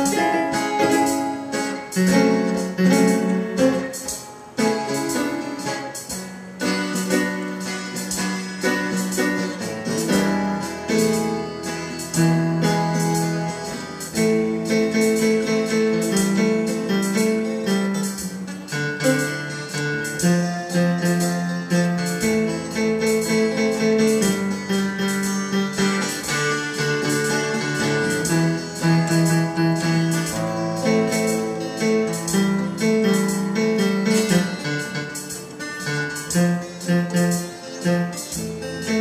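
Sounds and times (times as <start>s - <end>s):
electronic keyboard playing: 0.0s - 39.0s
rock guitar: 0.0s - 39.0s.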